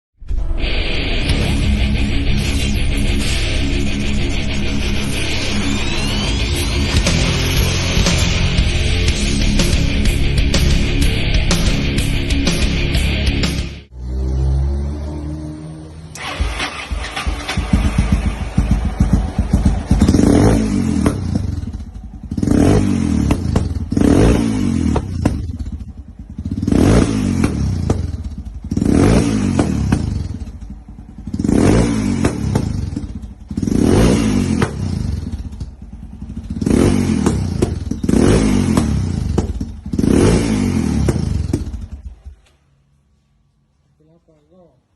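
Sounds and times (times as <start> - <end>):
motorcycle engine revving: 1.2 - 42.5.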